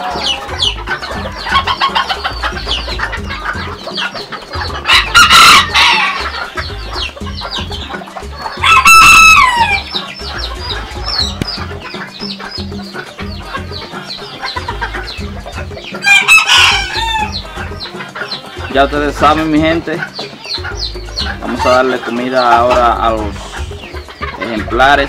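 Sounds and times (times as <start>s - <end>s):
chickens clucking: 0.0s - 25.0s
roosters crowing: 0.0s - 25.0s.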